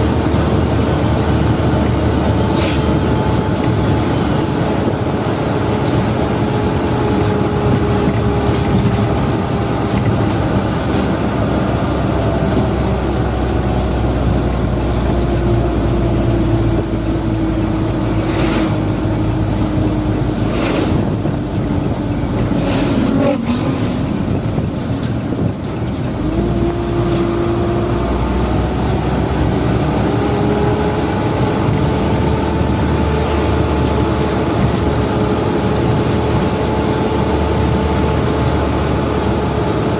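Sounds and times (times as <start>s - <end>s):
dump truck engine running: 0.0s - 39.9s.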